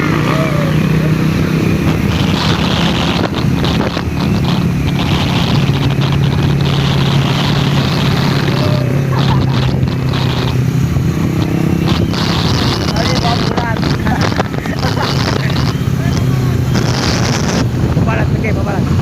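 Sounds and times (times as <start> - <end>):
road or wind noise: 0.0 - 19.0
vehicle engine droning: 0.0 - 19.0.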